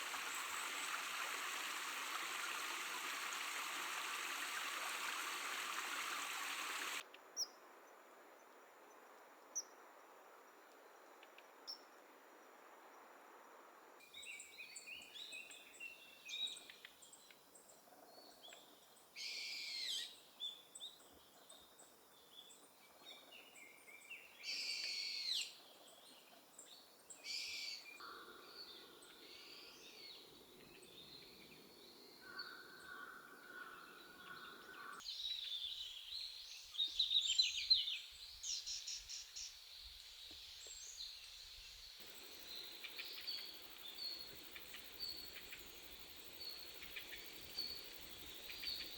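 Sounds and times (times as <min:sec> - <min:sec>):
songbirds chirping: 0:00.0 - 0:07.0, 0:14.2 - 0:48.9
faint background hiss: 0:00.0 - 0:48.9.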